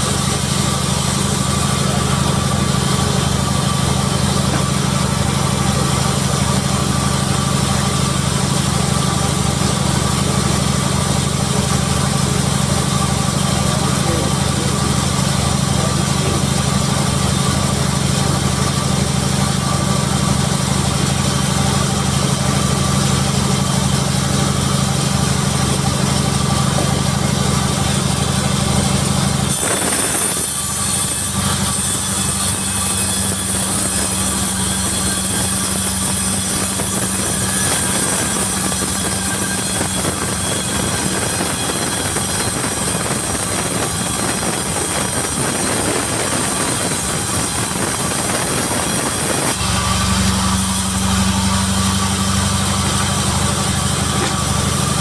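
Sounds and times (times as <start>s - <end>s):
sawmill machinery engine drone: 0.0s - 55.0s.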